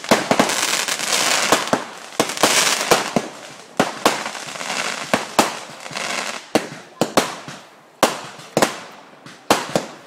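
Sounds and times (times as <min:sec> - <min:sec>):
continuous hiss: 0:00.0 - 0:10.0
fireworks bangs: 0:00.0 - 0:10.0.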